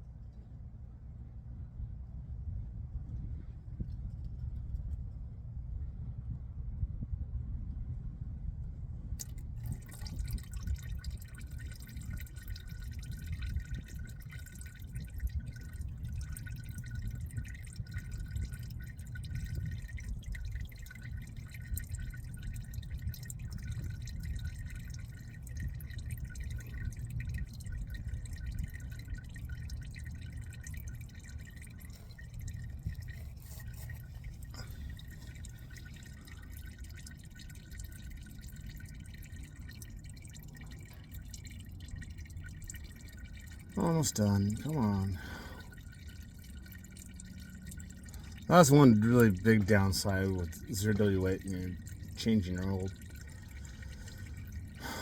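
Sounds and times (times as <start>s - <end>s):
oil draining and dripping into pan: 9.2s - 55.0s.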